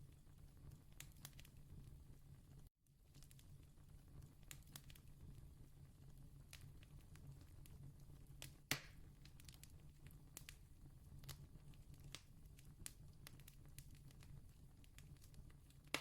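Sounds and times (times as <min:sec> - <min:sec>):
campfire crackling and popping: 0:00.3 - 0:01.9, 0:02.6 - 0:16.0.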